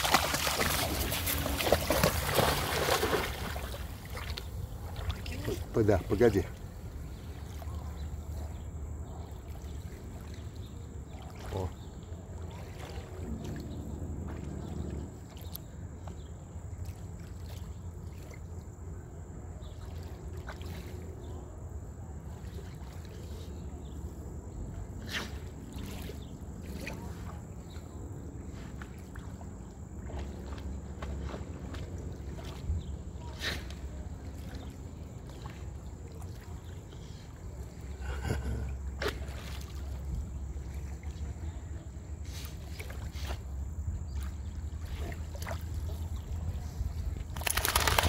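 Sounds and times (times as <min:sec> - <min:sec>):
soft splashes: 0:00.0 - 0:18.6, 0:19.6 - 0:21.3, 0:22.1 - 0:23.9, 0:25.2 - 0:48.0
water lapping at shoreline: 0:00.0 - 0:48.0.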